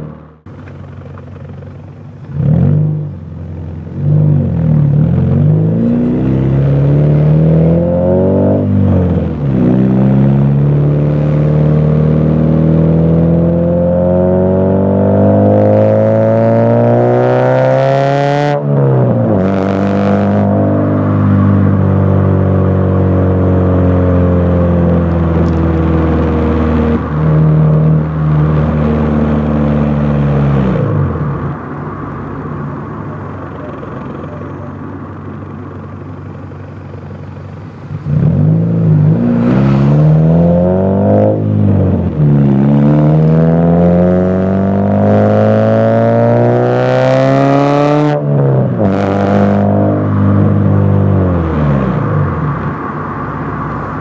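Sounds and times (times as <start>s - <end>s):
car exhaust engine driving: 0.0s - 54.0s.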